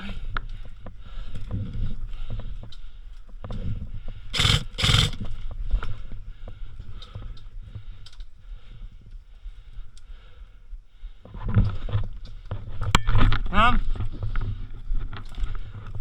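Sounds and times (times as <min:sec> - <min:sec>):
gear rustling and clicking: 0:00.0 - 0:10.1, 0:11.4 - 0:16.0.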